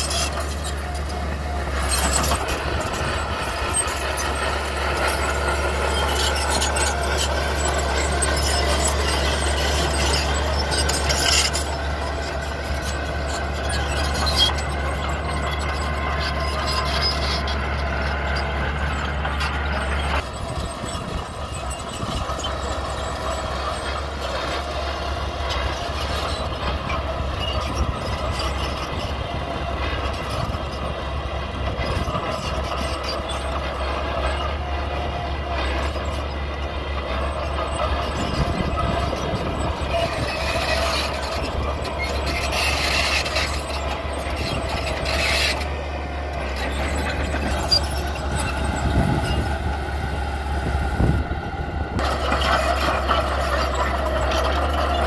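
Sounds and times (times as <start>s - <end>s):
bulldozer engine running: 0.0s - 55.0s
crawler tracks clattering: 0.0s - 55.0s.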